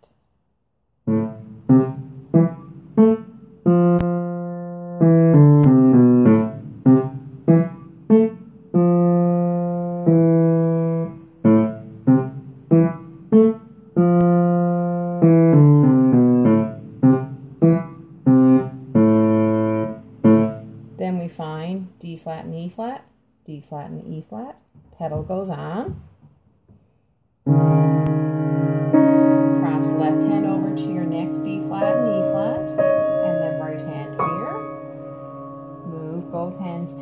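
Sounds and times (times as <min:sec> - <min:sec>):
low piano notes: 0:01.1 - 0:21.4, 0:27.4 - 0:37.0.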